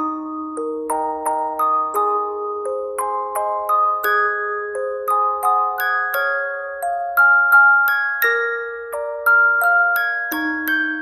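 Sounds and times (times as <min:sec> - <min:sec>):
bell-like chime melody: 0:00.0 - 0:11.0.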